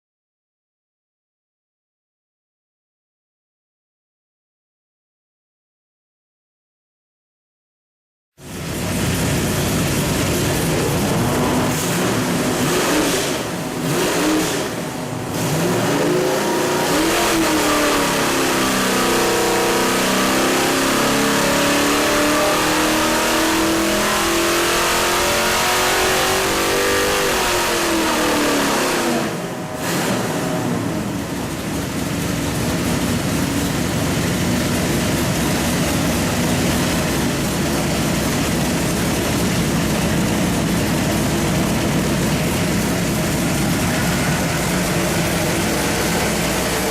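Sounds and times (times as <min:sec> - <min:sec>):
engine revving under load: 0:08.4 - 0:46.9.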